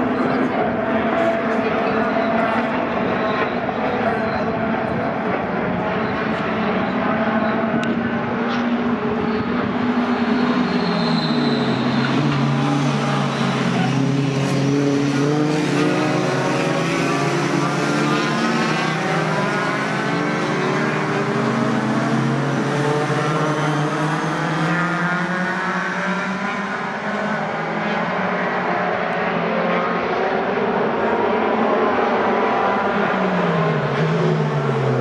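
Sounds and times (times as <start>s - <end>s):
racing truck engines: 0.0s - 35.0s.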